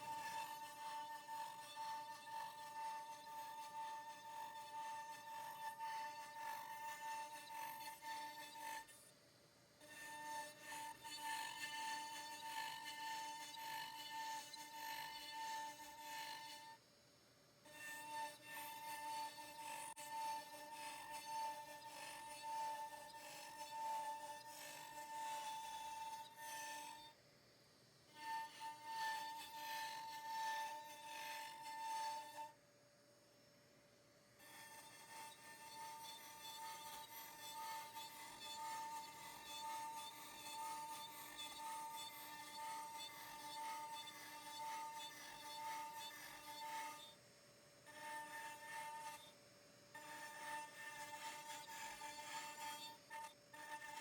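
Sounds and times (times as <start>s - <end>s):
bit rasping through wood: 0.0s - 9.0s, 9.8s - 16.7s, 17.7s - 27.1s, 28.1s - 32.5s, 34.4s - 47.2s, 47.8s - 49.3s, 49.9s - 54.0s
router spindle whining: 0.0s - 9.0s, 9.8s - 16.7s, 17.7s - 27.1s, 28.1s - 32.5s, 34.4s - 47.2s, 47.8s - 49.3s, 49.9s - 54.0s.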